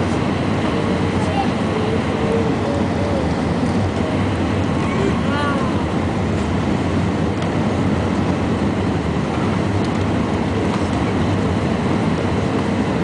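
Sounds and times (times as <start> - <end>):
jet airliner cabin roar: 0.0 - 13.0.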